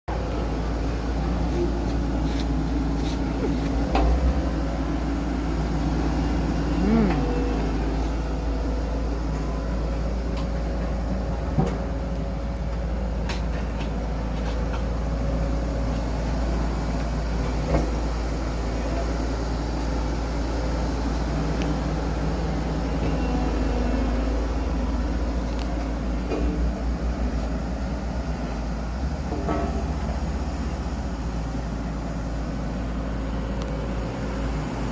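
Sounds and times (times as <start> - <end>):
road roller engine rumbling: 0.1 - 34.9.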